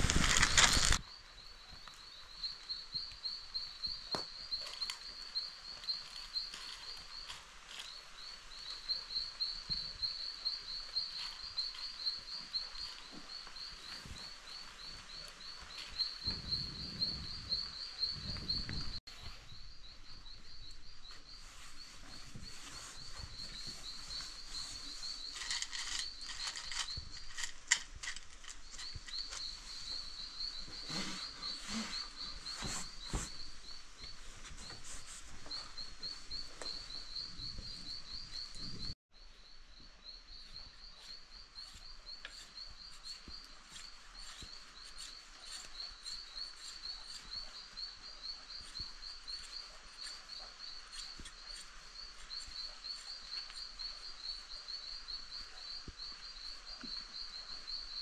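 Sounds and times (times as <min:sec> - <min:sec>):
high-pitched chirping wildlife: 0:00.0 - 0:58.0.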